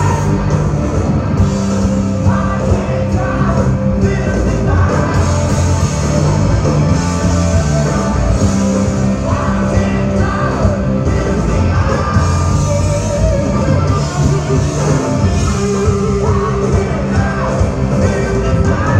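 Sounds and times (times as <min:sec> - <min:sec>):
rock band playing: 0:00.0 - 0:18.9
person singing: 0:01.8 - 0:18.9.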